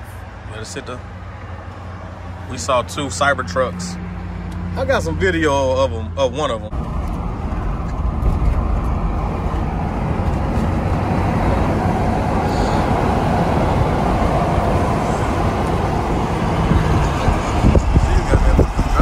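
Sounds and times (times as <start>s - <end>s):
vehicle road noise: 0.0s - 19.0s.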